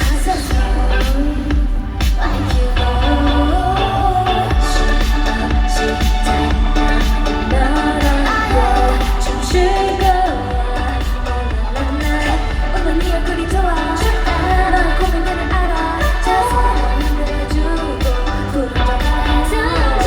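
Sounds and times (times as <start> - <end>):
group singing live: 0.0 - 20.0
pop backing track with bass beat: 0.0 - 20.0.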